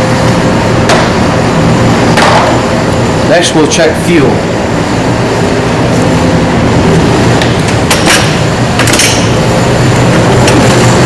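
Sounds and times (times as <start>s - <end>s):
space heater humming: 0.0s - 11.0s.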